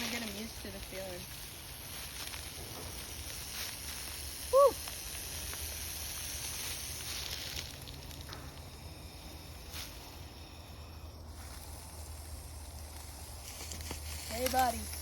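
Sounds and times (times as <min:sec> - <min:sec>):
low steady rumble: 0:00.0 - 0:15.0
snake hissing: 0:00.0 - 0:15.0.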